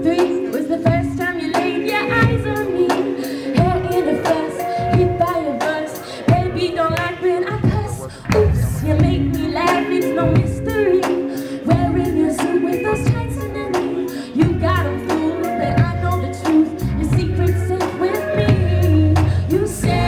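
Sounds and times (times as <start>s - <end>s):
backing track with heavy bass: 0.0s - 20.0s
woman singing into microphone: 0.0s - 20.0s.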